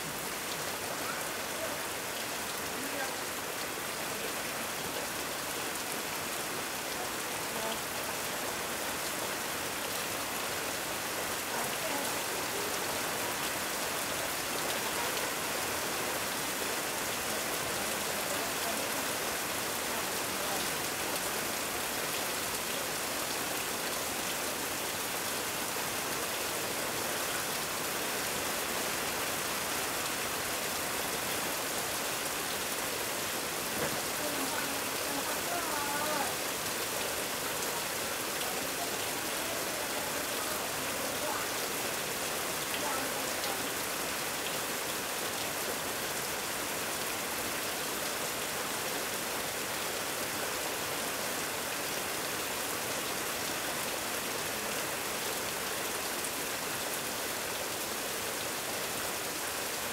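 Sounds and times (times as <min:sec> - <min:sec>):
rain on metal roof: 0:00.0 - 0:59.9.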